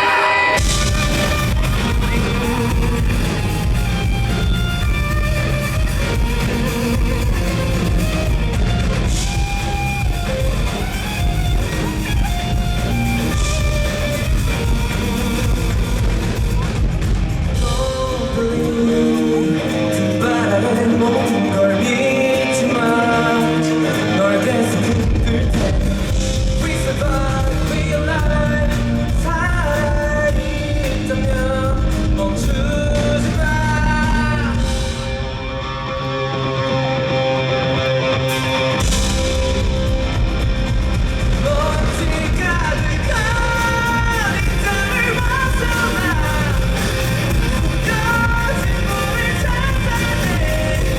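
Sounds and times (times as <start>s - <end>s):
person singing: 0.0s - 16.4s, 17.5s - 35.0s, 41.2s - 50.9s
electric guitar: 0.0s - 50.9s
live rock band playing: 0.0s - 50.9s.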